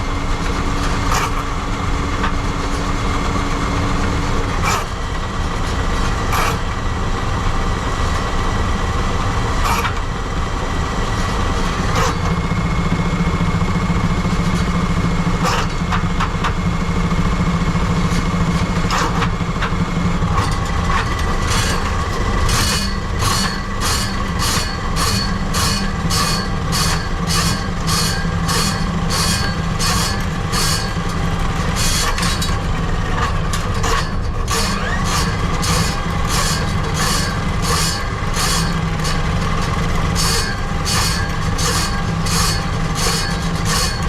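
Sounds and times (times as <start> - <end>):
motor humming: 0.0 - 44.0.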